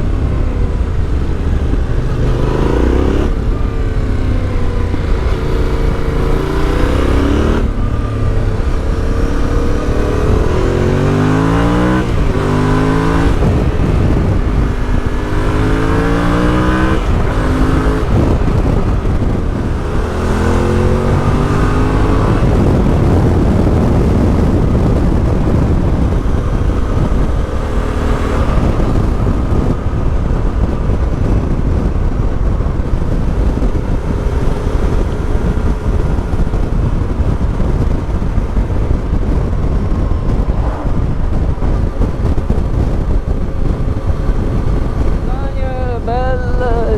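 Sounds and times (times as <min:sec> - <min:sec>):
motorcycle engine accelerating: 0:00.0 - 0:46.9
wind noise: 0:00.0 - 0:46.9.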